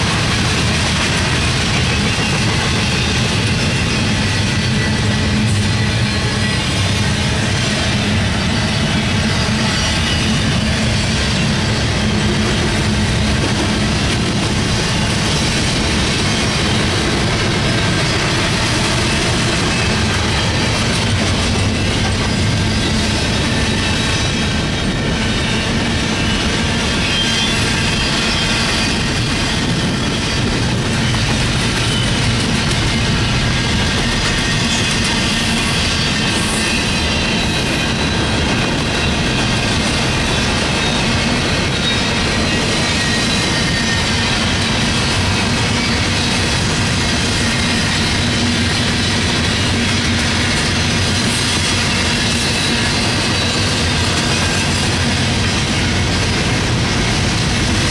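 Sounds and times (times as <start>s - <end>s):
steel wheels rumbling on rails: 0.0s - 57.9s.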